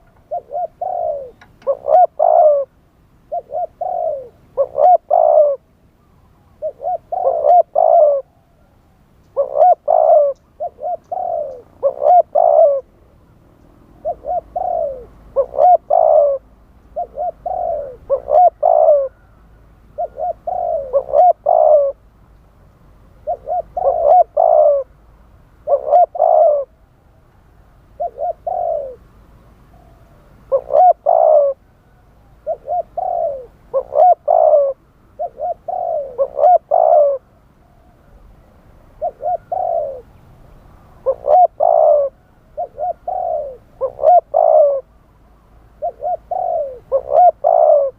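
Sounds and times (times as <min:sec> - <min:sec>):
dove cooing: 0:00.0 - 0:05.7, 0:06.4 - 0:13.0, 0:14.0 - 0:22.0, 0:23.2 - 0:24.9, 0:25.6 - 0:26.8, 0:28.0 - 0:29.1, 0:29.7 - 0:38.1, 0:39.0 - 0:40.2, 0:40.8 - 0:44.9, 0:45.8 - 0:47.9.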